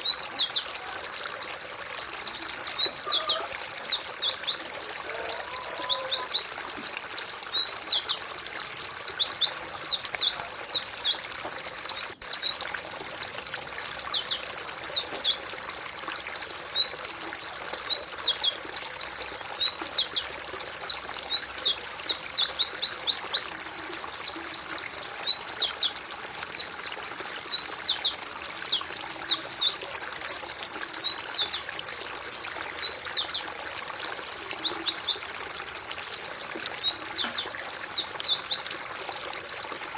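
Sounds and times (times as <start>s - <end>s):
birds chirping: 0.0s - 23.5s, 24.2s - 39.9s.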